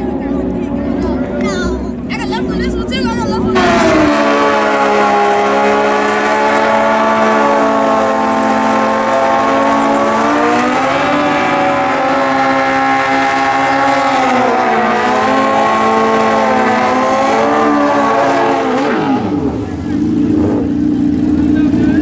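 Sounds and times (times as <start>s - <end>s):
motorcycle engine at high revs: 3.5s - 22.0s.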